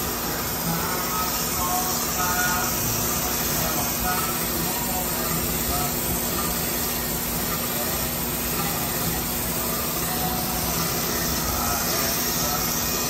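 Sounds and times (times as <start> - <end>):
grinder wheel hissing: 0.0 - 13.0.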